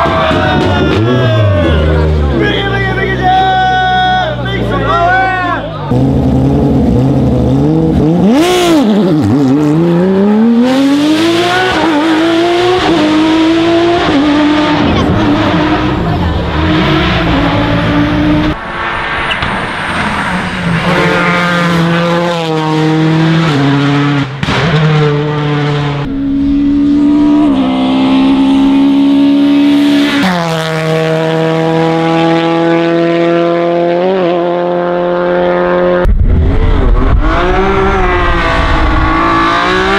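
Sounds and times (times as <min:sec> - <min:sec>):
rally car engines at full throttle: 0:00.0 - 0:39.9.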